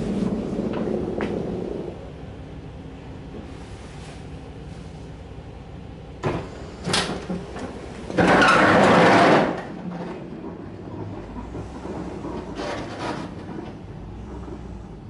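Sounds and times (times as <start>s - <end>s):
truck engine running: 0.0s - 8.7s, 9.5s - 15.0s.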